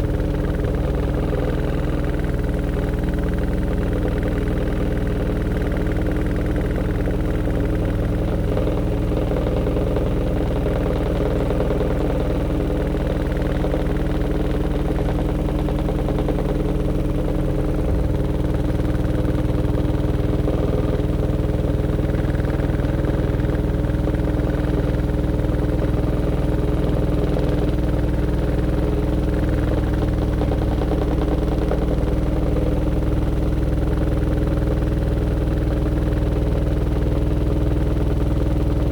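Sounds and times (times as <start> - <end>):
washing machine spinning hum: 0.0 - 38.9.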